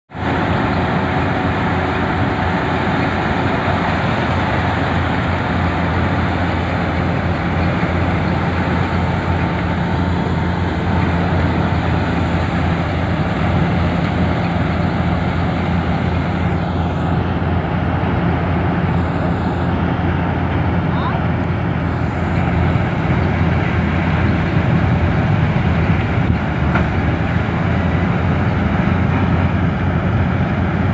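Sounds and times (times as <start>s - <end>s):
combine harvester engine drone: 0.1s - 30.9s.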